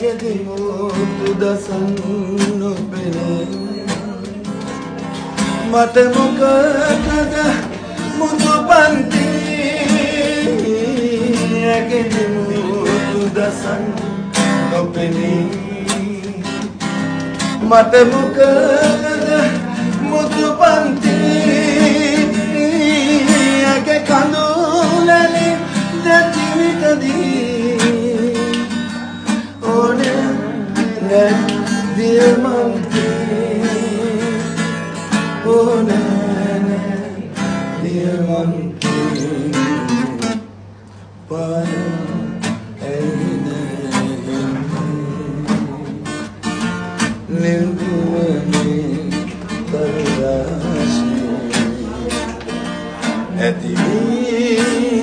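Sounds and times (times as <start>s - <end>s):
man singing: 0.0s - 40.6s, 41.2s - 55.0s
strummed acoustic guitar: 0.0s - 55.0s.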